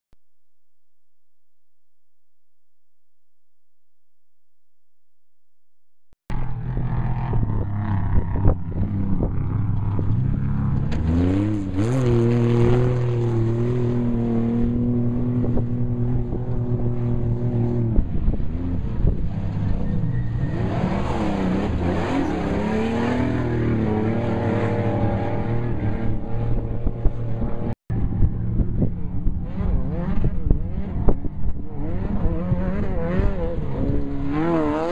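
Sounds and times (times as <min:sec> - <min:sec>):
race vehicle engines running hard: 0:06.3 - 0:34.9.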